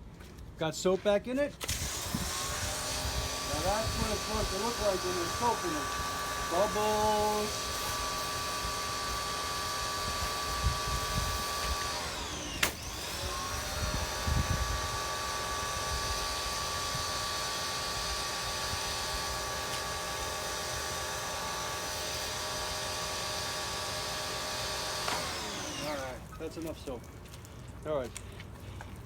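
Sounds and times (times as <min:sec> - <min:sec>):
pressure washer motor whining: 0:01.6 - 0:27.0.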